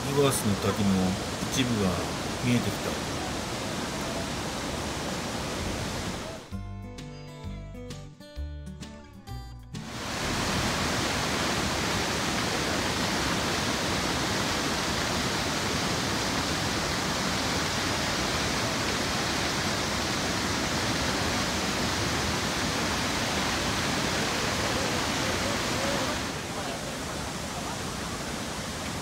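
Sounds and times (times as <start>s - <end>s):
waterfall rushing: 0.0s - 6.5s, 9.8s - 29.0s.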